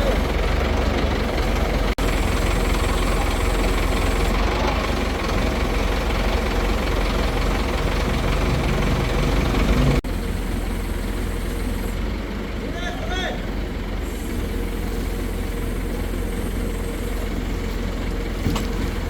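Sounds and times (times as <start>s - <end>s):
large engine running: 0.0s - 19.0s.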